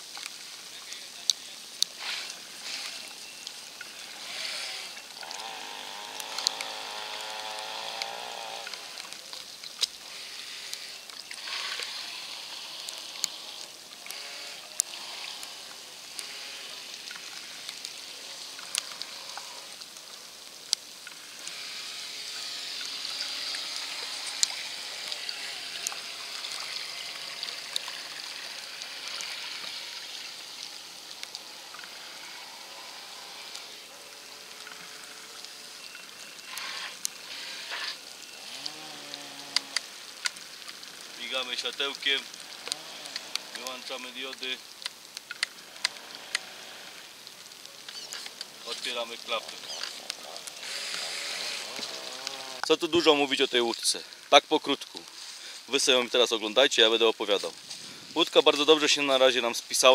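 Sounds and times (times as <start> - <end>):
water churning and trickling: 0.0 - 59.9.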